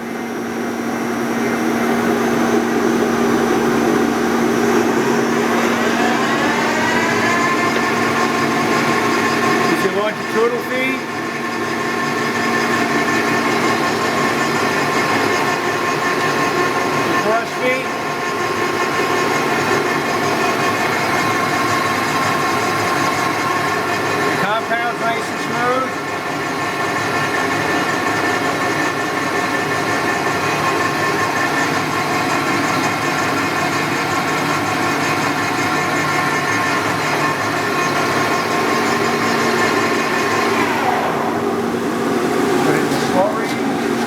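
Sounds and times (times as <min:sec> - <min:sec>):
lathe running: 0:00.0 - 0:44.0.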